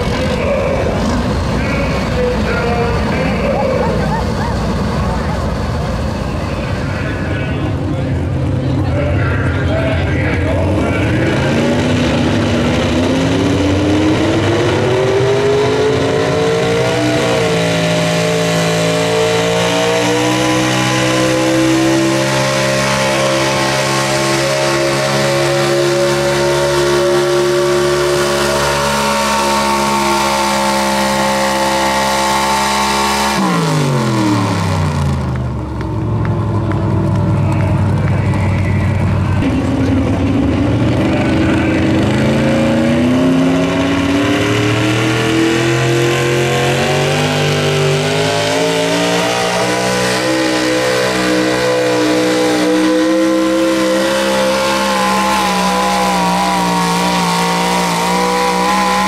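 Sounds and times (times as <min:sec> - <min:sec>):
truck engine at full throttle: 0:00.0 - 0:59.0.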